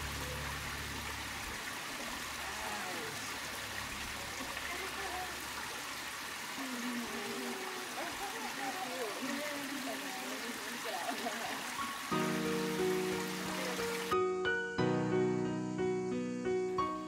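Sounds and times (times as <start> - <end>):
creek water trickling: 0.0 - 14.2.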